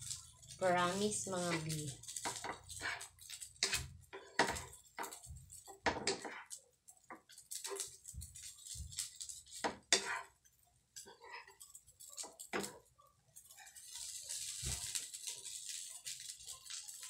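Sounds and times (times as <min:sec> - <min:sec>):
spatula scraping frying pan: 0:00.0 - 0:17.0.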